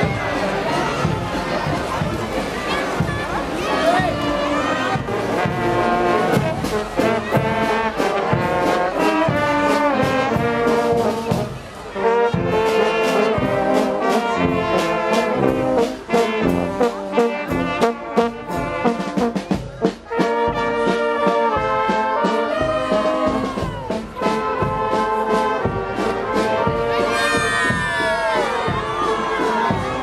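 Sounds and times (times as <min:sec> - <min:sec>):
brass band playing: 0:00.0 - 0:30.0
snare and bass drum beat: 0:00.0 - 0:30.0.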